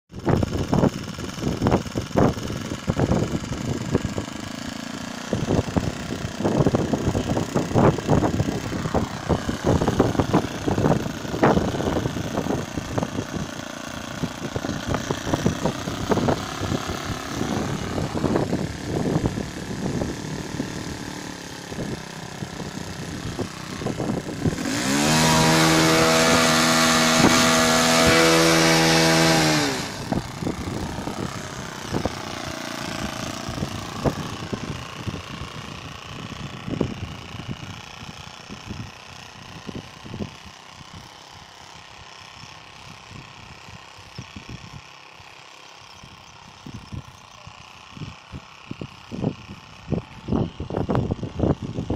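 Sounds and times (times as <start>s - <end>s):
wind buffeting microphone: 0.1s - 41.1s, 47.8s - 51.9s
model aeroplane engine buzzing: 0.1s - 51.9s.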